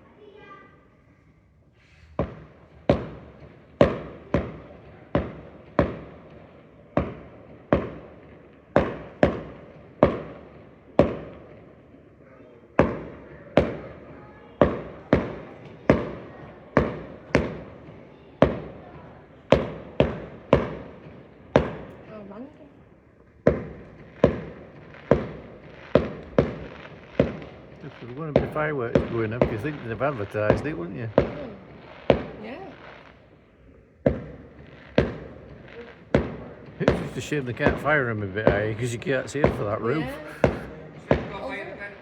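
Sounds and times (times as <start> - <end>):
fireworks bangs with echo: 2.1 - 42.0.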